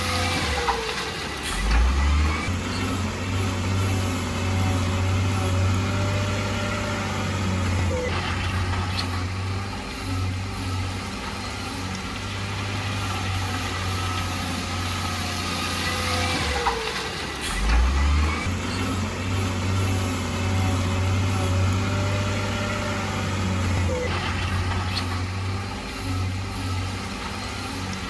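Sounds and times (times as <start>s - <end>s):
diesel machinery engine hum: 0.0s - 28.0s.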